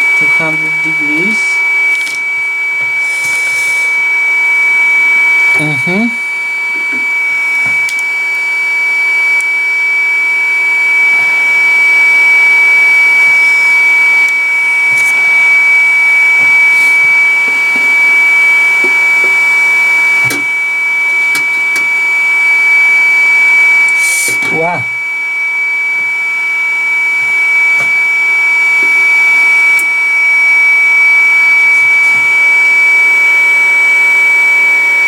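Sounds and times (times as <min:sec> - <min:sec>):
small blower motor whining: 0:00.0 - 0:35.0.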